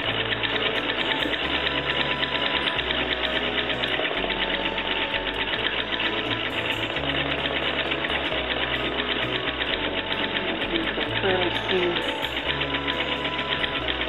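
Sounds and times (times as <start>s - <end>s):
treadle sewing machine stitching: 0.0s - 14.0s.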